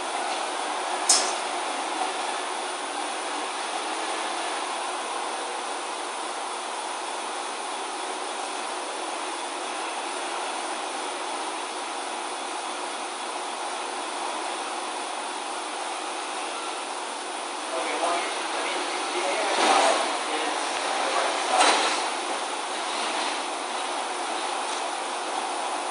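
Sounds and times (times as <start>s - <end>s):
ventilation hiss: 0.0s - 25.9s.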